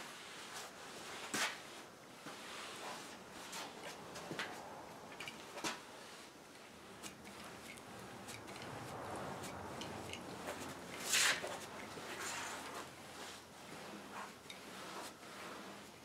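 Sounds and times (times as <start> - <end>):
brush swishing on wood: 0.0 - 16.0.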